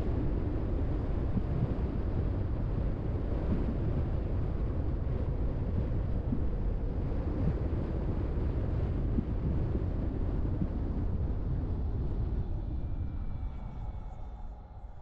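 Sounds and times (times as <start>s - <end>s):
wind noise: 0.0s - 15.0s.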